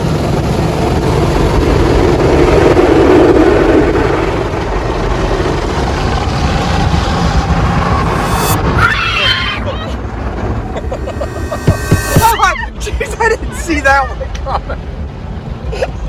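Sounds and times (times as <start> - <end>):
car wash equipment rushing: 0.0 - 15.7.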